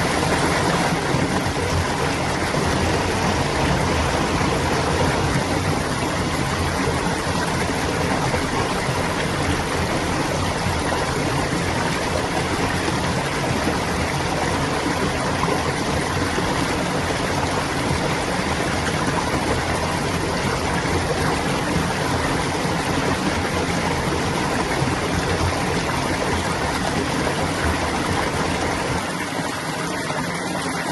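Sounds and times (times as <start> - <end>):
stream water babbling: 0.0 - 30.9.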